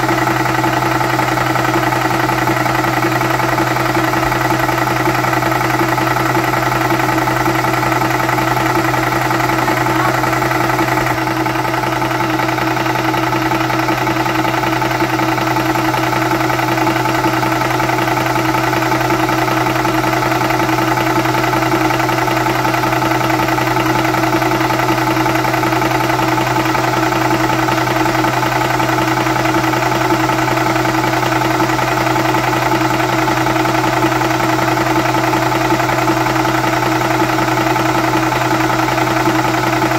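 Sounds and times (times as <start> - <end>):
air compressor humming and rattling: 0.0 - 39.9.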